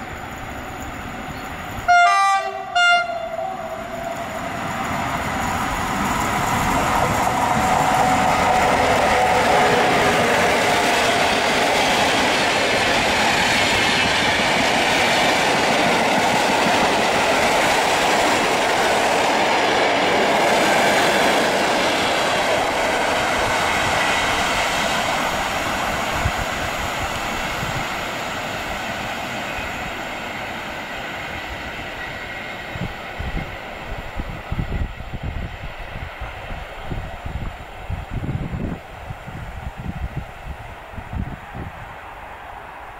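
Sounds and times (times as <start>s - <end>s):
electric locomotive pulling away: 0.0s - 38.8s
train wheels on rails: 0.0s - 42.9s.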